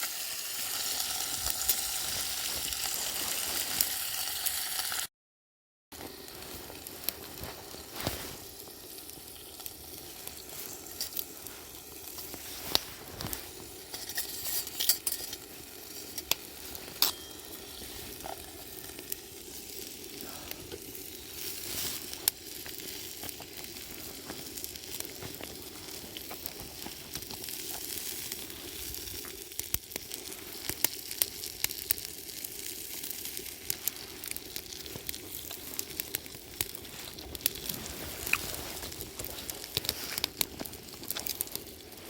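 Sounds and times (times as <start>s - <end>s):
campfire crackles and pops: 0.0s - 5.1s, 6.0s - 42.0s
food sizzling in a pan: 0.0s - 5.1s, 6.0s - 42.0s.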